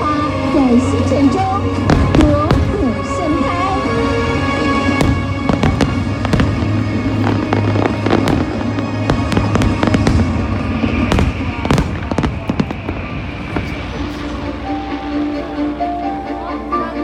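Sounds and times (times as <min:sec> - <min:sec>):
fireworks bangs and crackles: 0:00.0 - 0:14.9
music playing: 0:00.0 - 0:17.0.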